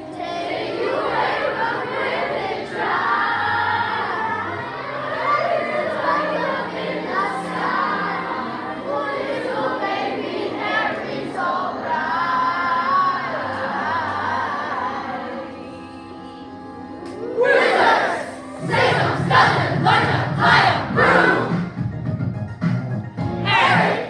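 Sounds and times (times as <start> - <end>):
children singing in unison: 0.0 - 21.5
low held accompaniment notes: 0.0 - 22.5.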